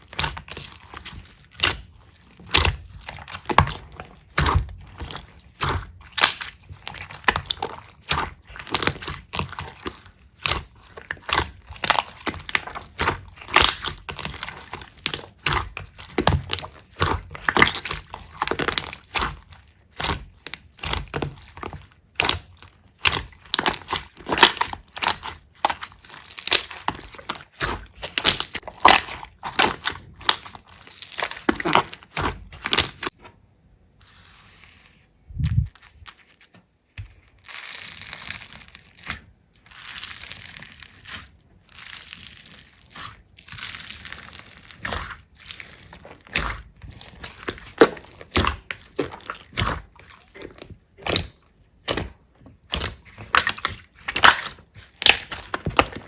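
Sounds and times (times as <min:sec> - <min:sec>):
slime crackling and popping: 0:00.0 - 0:33.2, 0:37.0 - 0:56.0
slime squishing: 0:00.0 - 0:33.3, 0:33.9 - 0:56.0.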